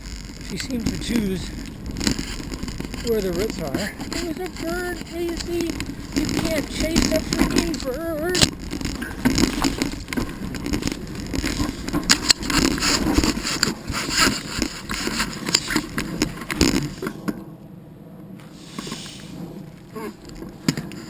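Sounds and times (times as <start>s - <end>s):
bike rattling over tree roots: 0.0s - 17.4s, 19.6s - 21.0s.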